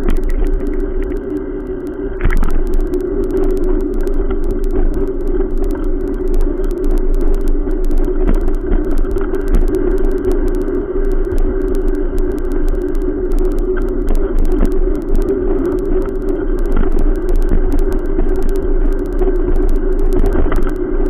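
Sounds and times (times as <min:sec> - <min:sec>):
small clicks: 0:00.0 - 0:21.0.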